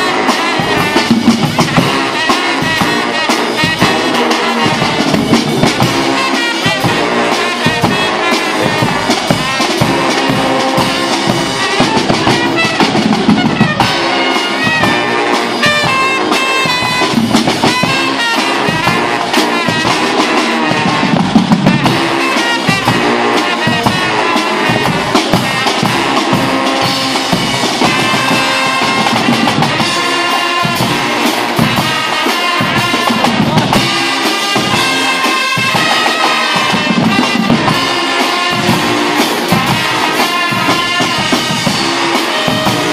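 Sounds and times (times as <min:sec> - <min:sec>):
bass drums and crash cymbals: 0:00.0 - 0:42.9
brass band playing loudly: 0:00.0 - 0:42.9.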